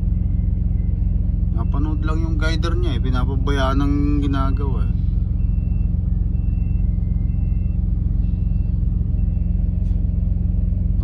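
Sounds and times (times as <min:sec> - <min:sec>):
diesel truck engine idling: 0:00.0 - 0:11.0
faint high backup beeping: 0:00.0 - 0:11.0.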